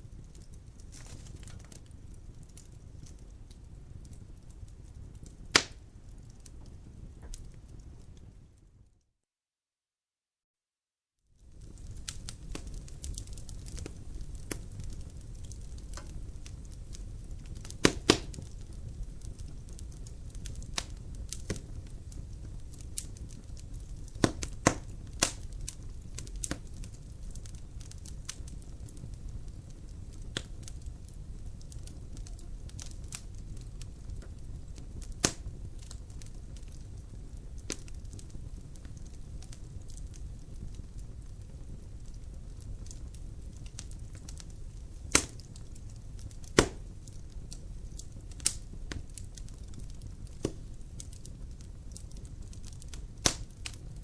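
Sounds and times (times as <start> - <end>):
wood fire crackling: 0.0 - 8.8, 11.4 - 54.0
fire pops: 0.1 - 8.3, 11.5 - 54.0.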